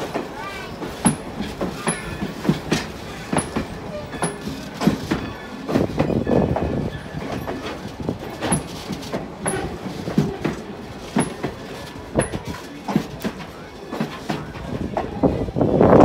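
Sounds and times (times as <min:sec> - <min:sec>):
train wheels clacking over rail joints: 0:00.0 - 0:16.0.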